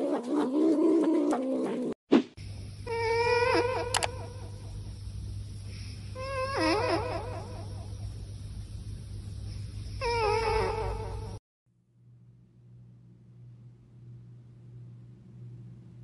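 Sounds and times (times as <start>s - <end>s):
steady low hum: 2.3s - 16.0s.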